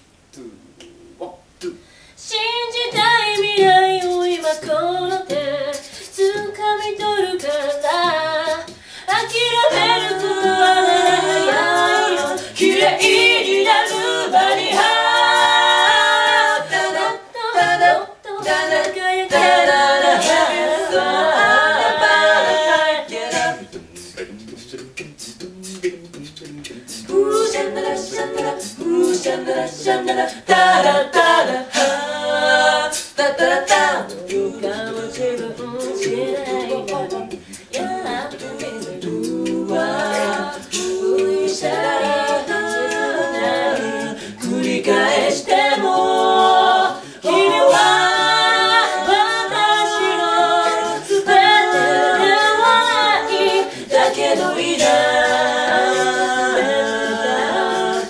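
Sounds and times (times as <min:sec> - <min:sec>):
voices singing a cappella: 0:00.0 - 0:58.0.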